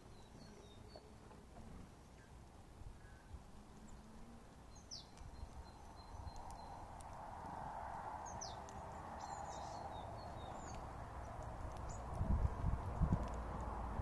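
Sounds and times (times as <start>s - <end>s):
faint rushing noise: 0.0s - 14.0s
songbirds chirping: 0.0s - 14.0s.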